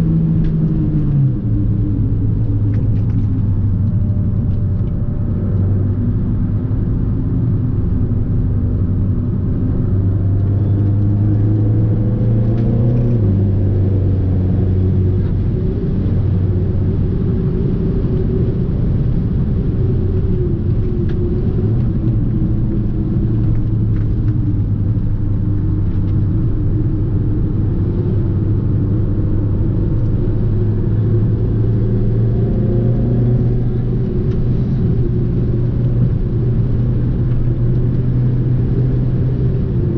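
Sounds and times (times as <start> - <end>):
car engine and exhaust: 0.0 - 39.9.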